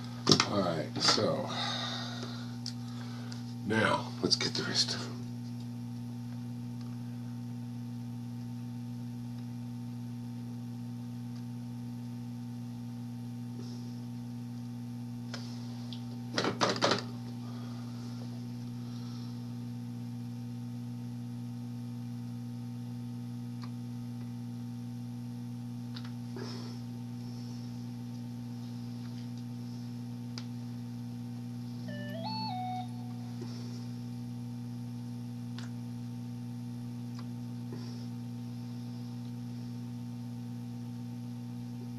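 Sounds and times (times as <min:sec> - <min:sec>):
low electrical hum: 0:00.0 - 0:41.9.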